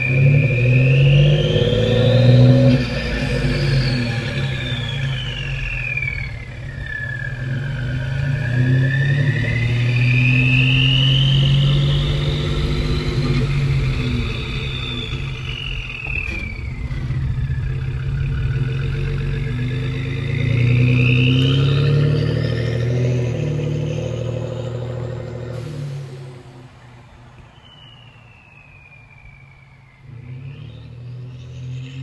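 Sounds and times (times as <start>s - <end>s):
turbo whistle: 0.0s - 26.4s, 27.3s - 32.0s
deep exhaust rumble: 0.0s - 32.0s.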